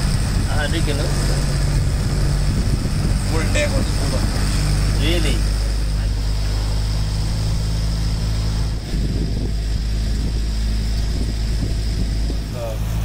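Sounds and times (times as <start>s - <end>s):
boat engine humming: 0.0s - 13.0s
sea noise: 0.0s - 13.0s
wind: 0.0s - 13.0s.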